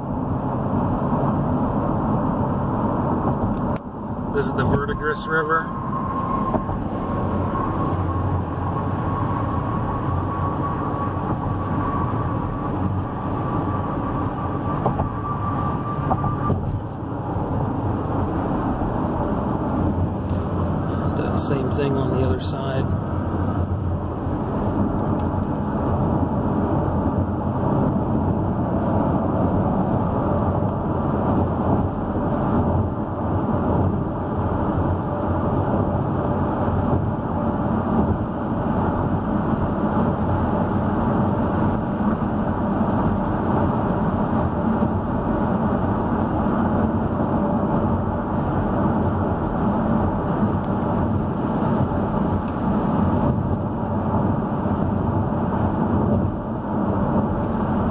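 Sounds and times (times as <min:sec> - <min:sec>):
car road noise rumble: 0:00.0 - 0:57.9.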